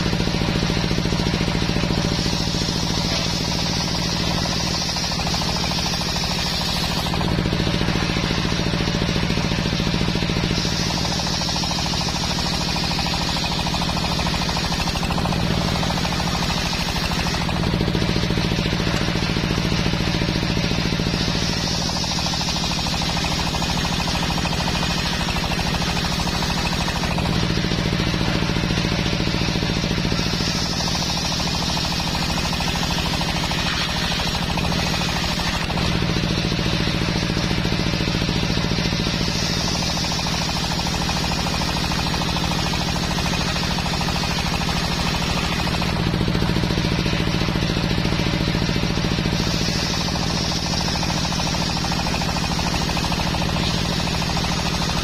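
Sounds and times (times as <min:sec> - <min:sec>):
circular saw cutting wood: 0:00.0 - 0:55.0
saw drive running: 0:00.0 - 0:55.0.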